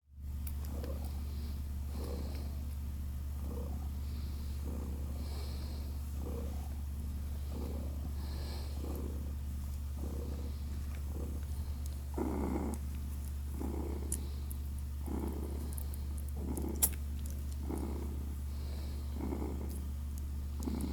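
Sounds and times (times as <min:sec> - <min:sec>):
cat purring: 0:00.4 - 0:20.9.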